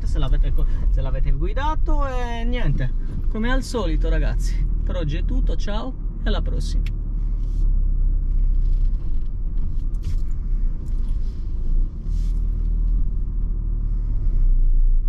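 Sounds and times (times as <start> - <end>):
van diesel engine rumbling: 0.0 - 15.0.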